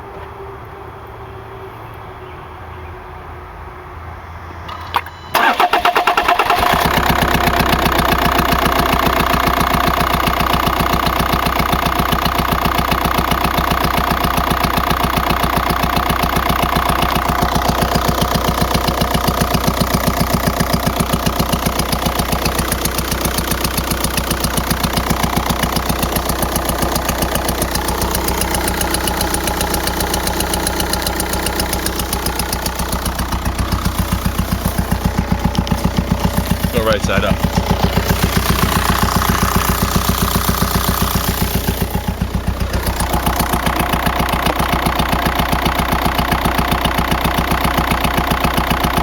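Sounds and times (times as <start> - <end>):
diesel engine starting and idling: 4.3 - 49.0.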